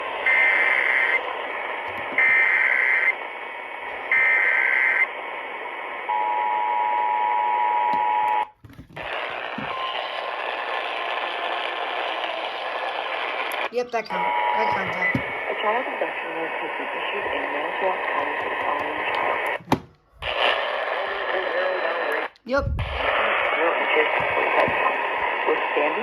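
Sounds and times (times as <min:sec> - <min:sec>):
radio hiss: 0:00.0 - 0:06.2, 0:09.0 - 0:26.0.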